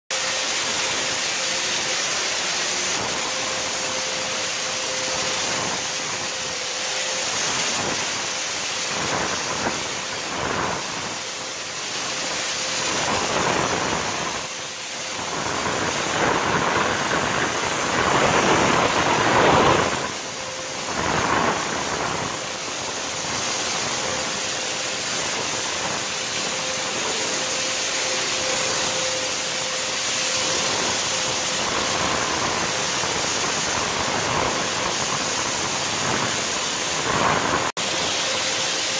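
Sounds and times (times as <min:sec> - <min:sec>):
mist sprayer hissing: 0:00.1 - 0:38.9.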